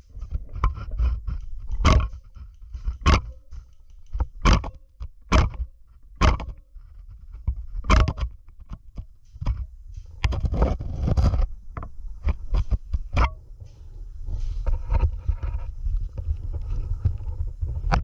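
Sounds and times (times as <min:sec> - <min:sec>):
rustling: 0:00.0 - 0:18.0
scraping and knocking on microphone: 0:00.0 - 0:18.0.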